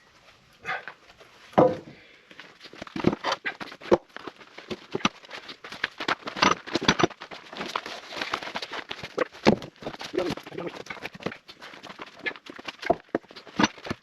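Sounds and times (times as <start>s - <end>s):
firewood logs knocking: 1.6s - 14.0s.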